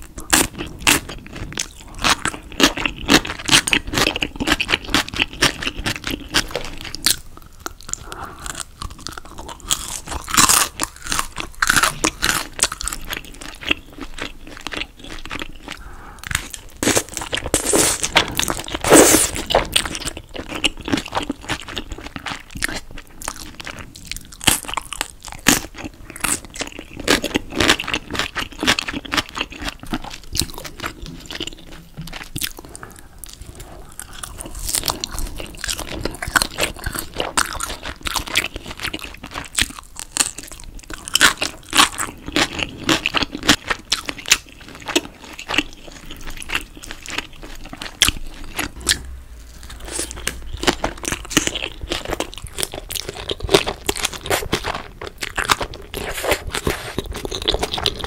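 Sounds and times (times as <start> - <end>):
crispy chewing: 0.0 - 58.0.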